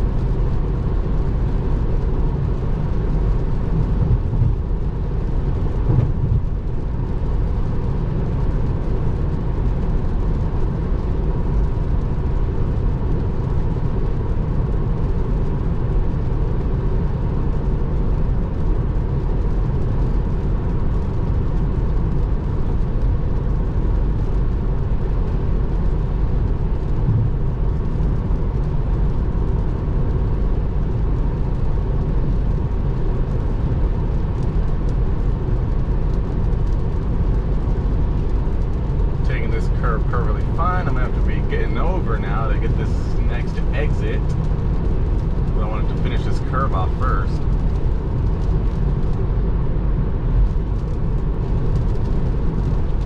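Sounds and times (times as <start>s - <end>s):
road and tyre noise on wet road: 0.0s - 53.0s.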